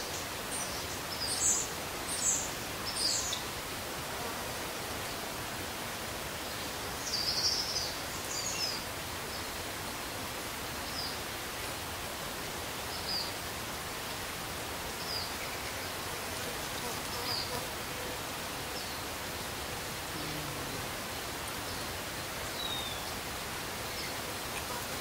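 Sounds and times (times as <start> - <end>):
forest hiss: 0.0 - 25.0.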